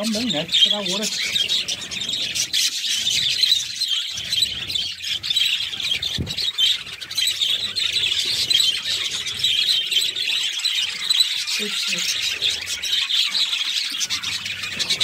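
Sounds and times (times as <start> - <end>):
budgerigars chattering and chirping: 0.0 - 15.0.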